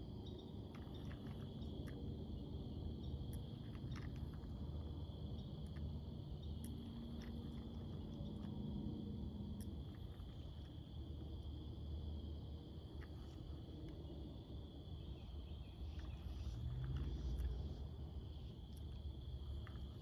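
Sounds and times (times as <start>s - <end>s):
insects trilling: 0.0s - 20.0s
low steady hum: 0.0s - 20.0s.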